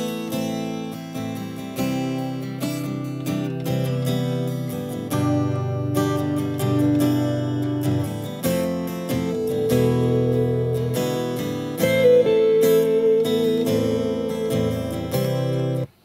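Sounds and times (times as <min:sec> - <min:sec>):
strummed acoustic guitar music: 0:00.0 - 0:16.0.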